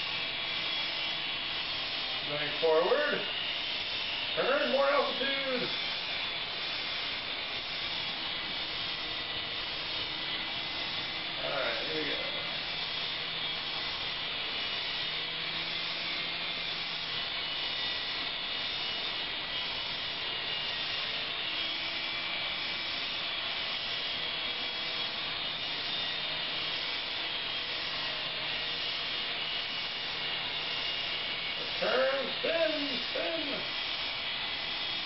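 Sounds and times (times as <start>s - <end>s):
toy helicopter rotors whirring: 0.0s - 35.0s.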